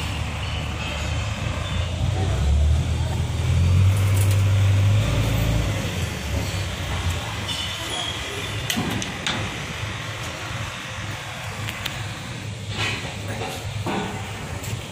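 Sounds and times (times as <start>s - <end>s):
pressure washer motor humming: 0.0s - 14.9s.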